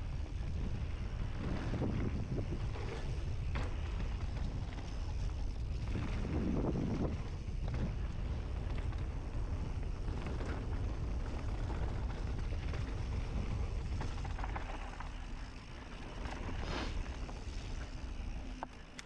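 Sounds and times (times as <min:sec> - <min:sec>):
wind buffeting microphone: 0:00.0 - 0:15.4
bike clicks and rattles: 0:00.0 - 0:19.0.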